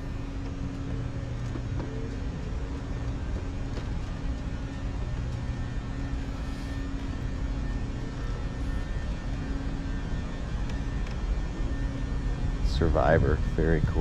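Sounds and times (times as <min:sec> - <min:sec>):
constant tone: 0:00.0 - 0:14.0
low hum and rumble: 0:00.0 - 0:14.0.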